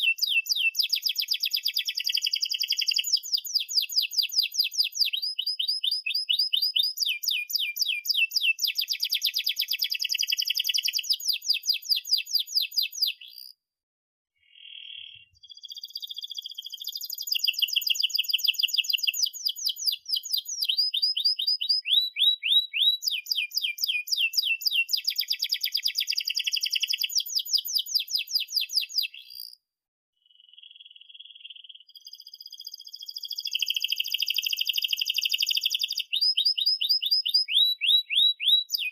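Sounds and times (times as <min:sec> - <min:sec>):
canary singing: 0:00.0 - 0:13.6, 0:14.4 - 0:29.6, 0:30.4 - 0:38.9.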